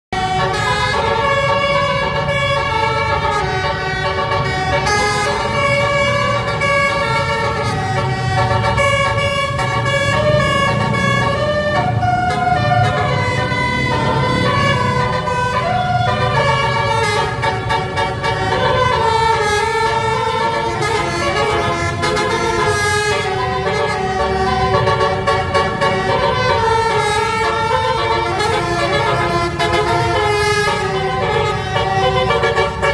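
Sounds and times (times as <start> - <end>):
bus air horn melody: 0.2 - 32.9.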